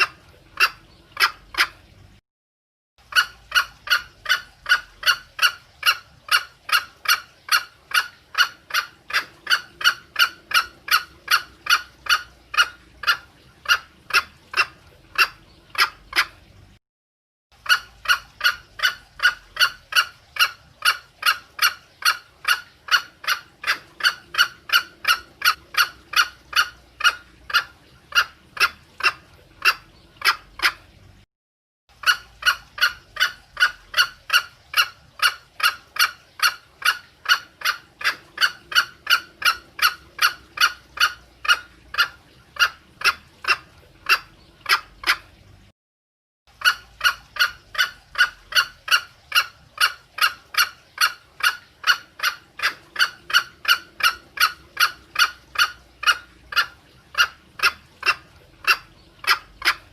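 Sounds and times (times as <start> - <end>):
junglefowl hen calling: 0.0 - 1.8, 3.1 - 16.4, 17.6 - 30.8, 32.0 - 45.3, 46.6 - 59.9.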